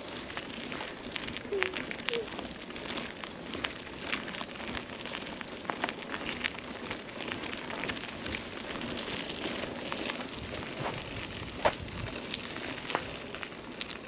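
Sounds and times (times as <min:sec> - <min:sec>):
bike clicks and rattles: 0:00.0 - 0:14.0
bike tyres crackling on trail: 0:00.0 - 0:14.0.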